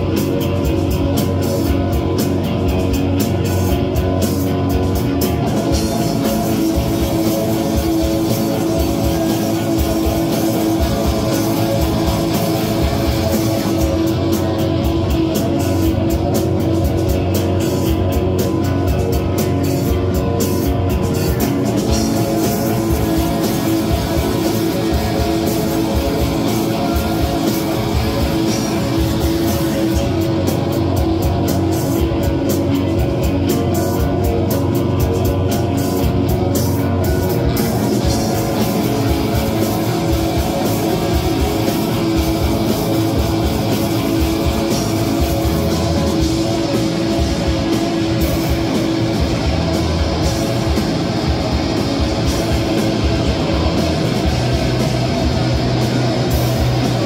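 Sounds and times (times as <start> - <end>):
bass guitar: 0.0 - 57.0
drum kit with cymbals: 0.0 - 57.0
electric guitar: 0.0 - 57.0.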